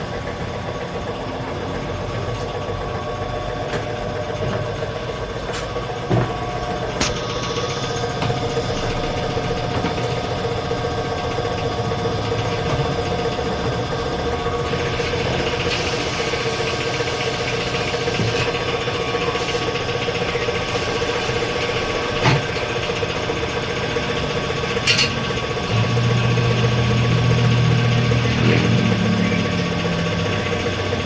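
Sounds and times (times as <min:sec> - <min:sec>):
deep steady hum: 0:00.0 - 0:31.0
engine running steadily: 0:00.0 - 0:31.0.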